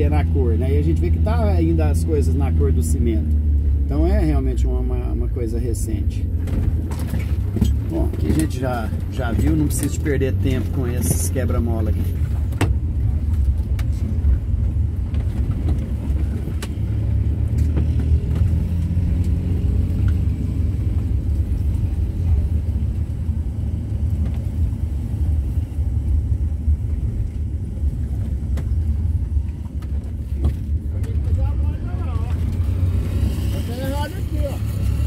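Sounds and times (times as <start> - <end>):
van engine and road noise: 0.0 - 35.0.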